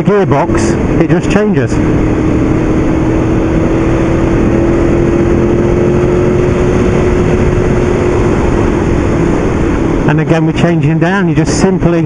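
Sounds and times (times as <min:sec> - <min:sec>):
motorcycle engine running: 0:00.0 - 0:11.8
wind on microphone: 0:00.0 - 0:12.0.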